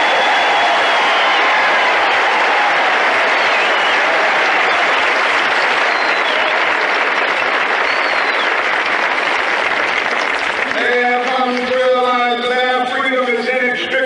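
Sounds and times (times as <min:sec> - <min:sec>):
crowd applauding: 0:00.0 - 0:13.3.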